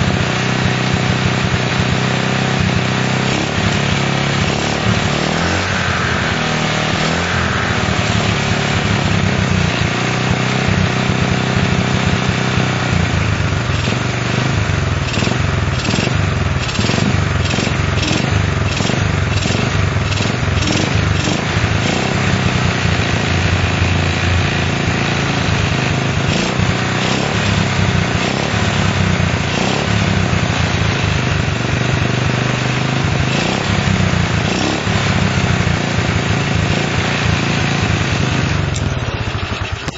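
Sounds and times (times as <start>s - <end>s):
small motorcycle engine running: 0.0s - 39.9s.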